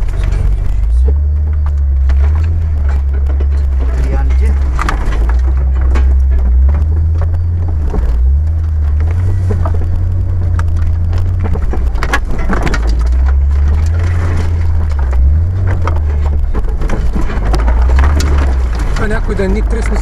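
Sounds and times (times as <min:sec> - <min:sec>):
branches scraping car body: 0:00.0 - 0:20.0
car engine droning: 0:00.0 - 0:20.0
knocks and rattles: 0:00.0 - 0:20.0.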